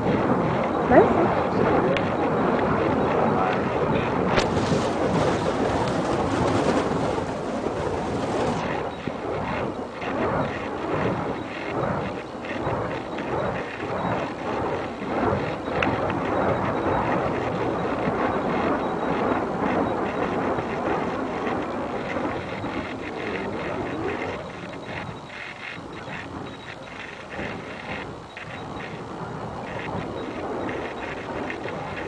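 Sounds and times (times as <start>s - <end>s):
fire poi whooshing: 0.0s - 32.0s
wind noise on microphone: 0.0s - 32.0s.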